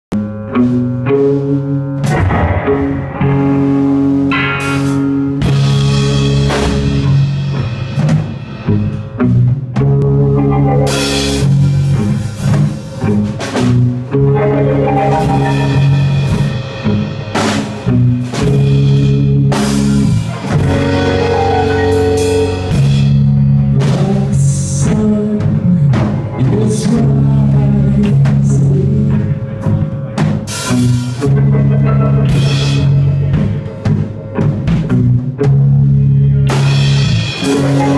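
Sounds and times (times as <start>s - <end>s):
rock band playing live: 0.1s - 37.9s.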